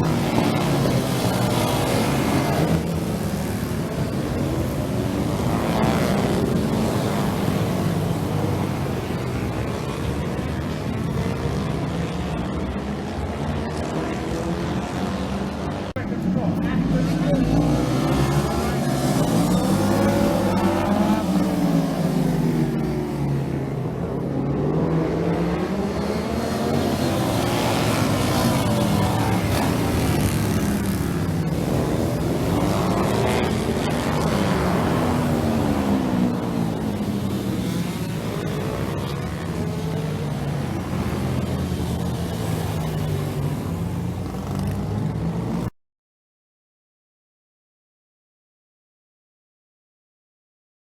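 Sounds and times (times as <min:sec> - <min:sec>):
racing motorcycle engines revving: 0:00.0 - 0:45.7.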